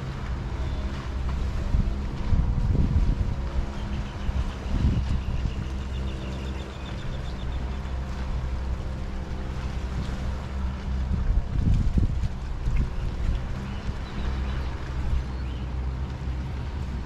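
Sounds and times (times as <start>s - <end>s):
boat motor droning: 0.0s - 17.0s
wind buffeting microphone: 0.0s - 17.0s.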